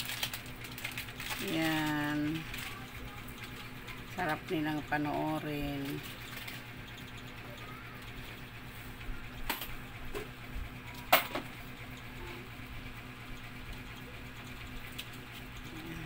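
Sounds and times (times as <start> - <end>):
aquarium air pump humming: 0.0 - 16.0.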